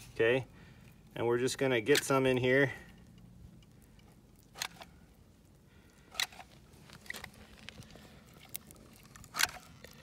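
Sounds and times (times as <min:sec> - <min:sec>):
faint handling sounds: 0:01.9 - 0:10.0.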